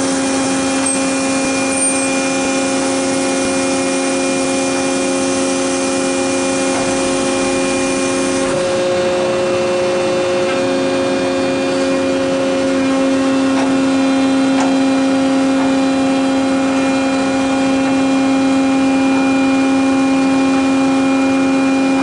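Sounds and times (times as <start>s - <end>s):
hydraulic power unit humming: 0.0s - 22.0s
noisy whir: 0.0s - 22.0s.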